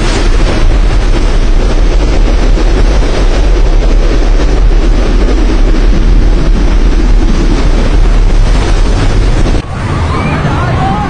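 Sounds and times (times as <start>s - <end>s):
driving rain: 0.0s - 11.0s
storm wind roaring: 0.0s - 11.0s
wind buffeting microphone: 0.0s - 11.0s.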